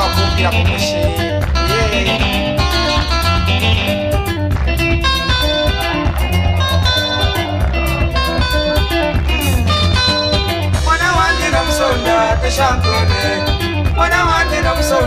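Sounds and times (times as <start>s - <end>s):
upbeat dance music: 0.0s - 15.0s.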